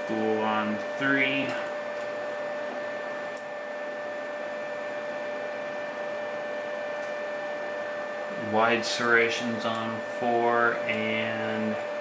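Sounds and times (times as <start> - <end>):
thin whine: 0.0 - 12.0.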